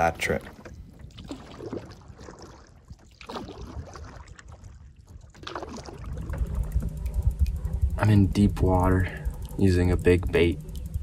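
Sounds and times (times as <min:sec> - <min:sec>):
water lapping against hull: 0:00.0 - 0:11.0
wind rumble on microphone: 0:00.7 - 0:11.0.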